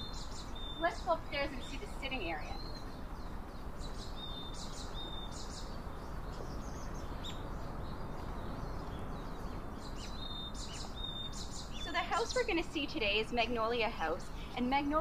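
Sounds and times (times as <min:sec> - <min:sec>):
birds chirping and calling: 0:00.0 - 0:15.0
low background noise: 0:00.0 - 0:15.0.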